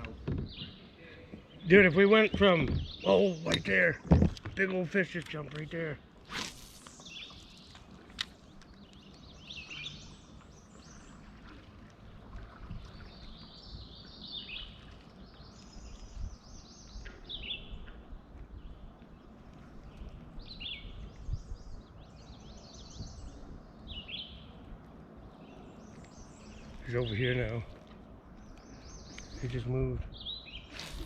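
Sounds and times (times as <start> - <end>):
low uneven rumble: 0.0 - 31.0
songbirds chirping: 0.0 - 31.0.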